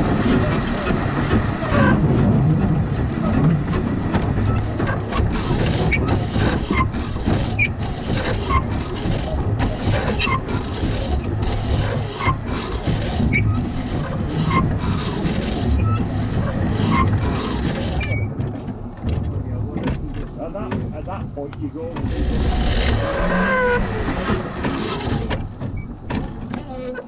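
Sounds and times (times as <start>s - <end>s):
steam locomotive rumbling: 0.0s - 27.0s.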